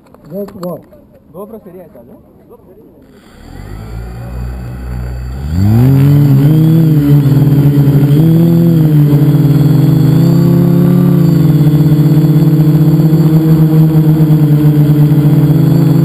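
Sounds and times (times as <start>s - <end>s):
drone motors whining: 3.0s - 16.0s.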